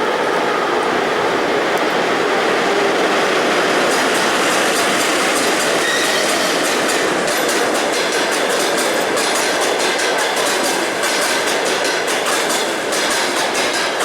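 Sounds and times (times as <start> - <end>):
train wheels rumbling on rail: 0.0 - 14.0
wheels clickety-clack over rail joints: 0.0 - 14.0.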